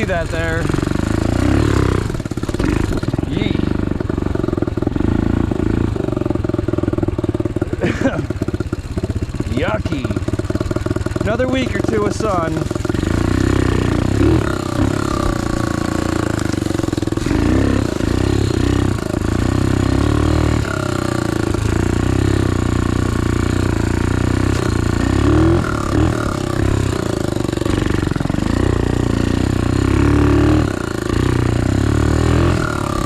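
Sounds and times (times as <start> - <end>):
small motorbike engine revving: 0.0 - 33.0.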